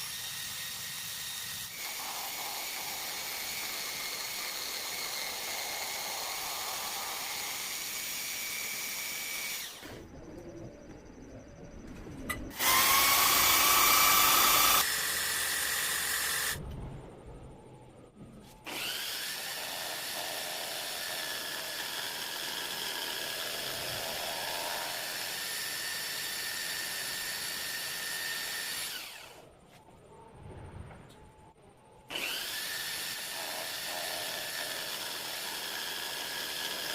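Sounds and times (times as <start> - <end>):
electric power tool whining: 0.0 - 10.0, 12.5 - 16.6, 18.7 - 29.4, 32.1 - 36.9.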